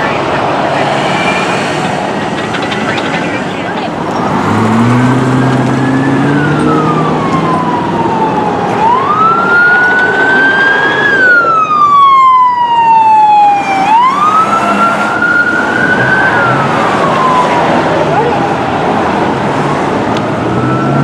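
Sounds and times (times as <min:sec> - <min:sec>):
electronic siren wailing: 0:00.0 - 0:18.4, 0:20.3 - 0:21.0
traffic noise: 0:00.0 - 0:21.0.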